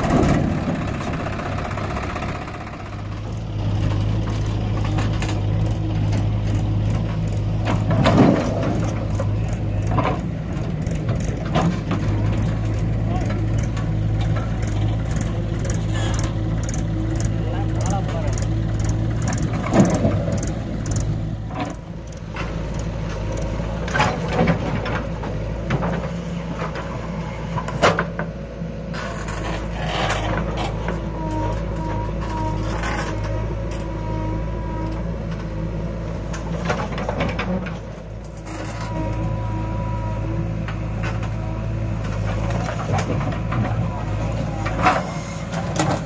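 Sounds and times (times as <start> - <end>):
diesel engines running: 0.0 - 46.0.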